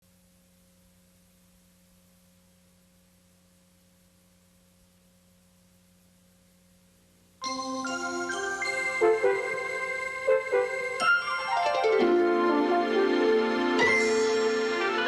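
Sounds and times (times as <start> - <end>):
faint tape hum and hiss: 0.0 - 15.0.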